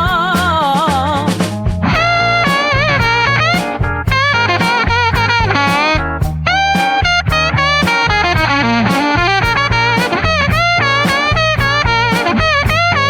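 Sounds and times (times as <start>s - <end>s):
bass line: 0.0s - 13.0s
steady drum beat: 0.0s - 13.0s
lead guitar bending notes: 1.5s - 13.0s.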